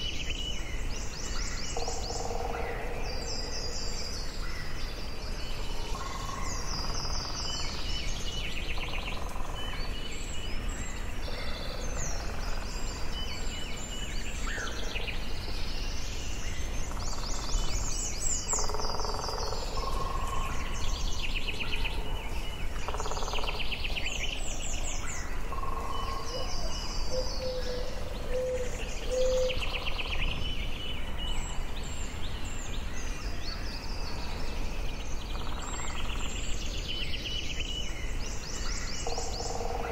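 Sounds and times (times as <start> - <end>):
low background hiss: 0.0 - 39.9
songbirds chirping and trilling: 0.0 - 39.9.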